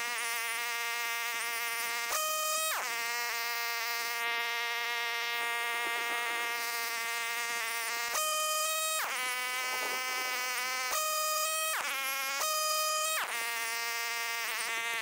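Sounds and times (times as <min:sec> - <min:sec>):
tractor engine buzzing whine: 0:02.9 - 0:15.0.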